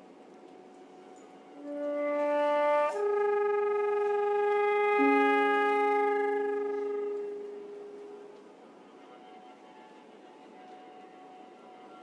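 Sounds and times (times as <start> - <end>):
flute: 0.0 - 12.0
viola: 0.0 - 12.0.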